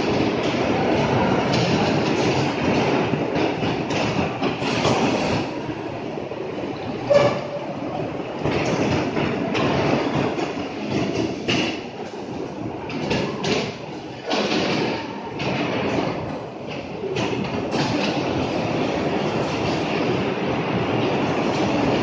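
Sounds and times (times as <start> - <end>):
bumper cars knocking: 0.0 - 22.0
bumper cars rolling rumble: 0.0 - 22.0.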